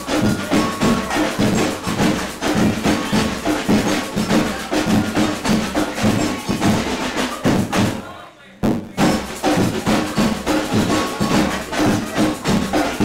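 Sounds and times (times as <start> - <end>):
samba drum band playing: 0.0 - 13.0.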